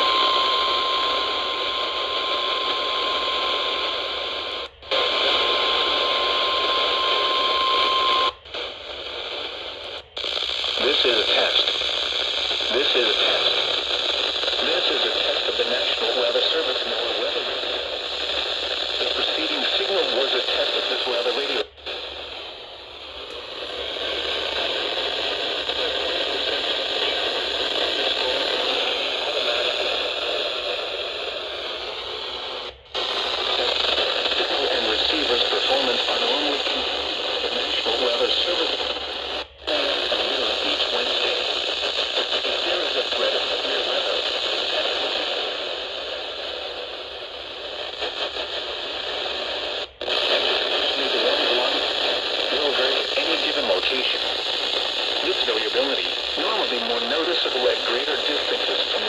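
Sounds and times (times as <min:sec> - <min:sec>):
radio static crackling hiss: 0:00.0 - 0:59.0.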